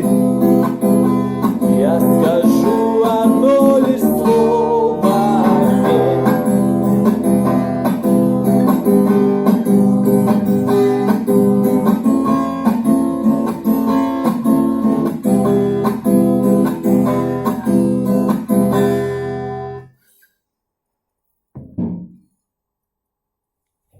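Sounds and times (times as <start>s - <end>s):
acoustic guitar strumming: 0.0s - 19.9s.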